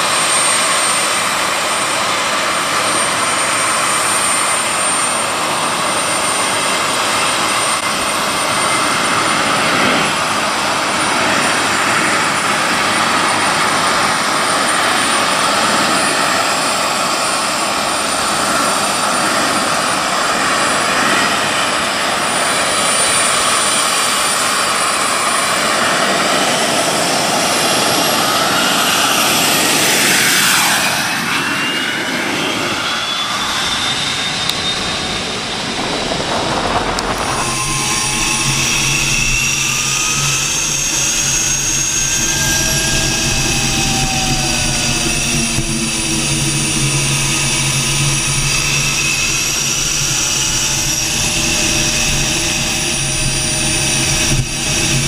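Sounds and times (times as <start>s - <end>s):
turbine engine rushing and whining: 0.0s - 55.0s.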